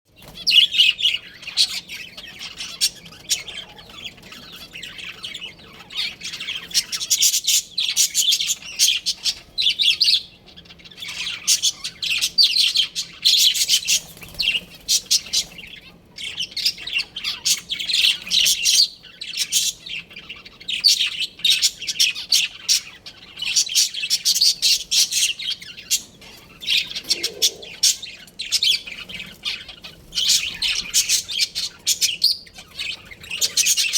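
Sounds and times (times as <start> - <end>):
budgerigars chirping and chattering: 0.2 - 33.9.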